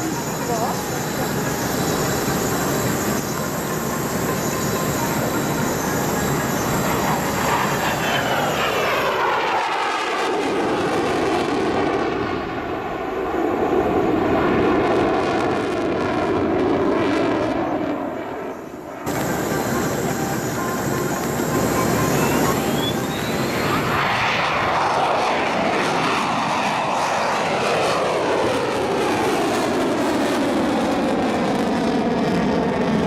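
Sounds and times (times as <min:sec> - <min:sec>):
jet engine roar passing by: 0:00.0 - 0:33.0.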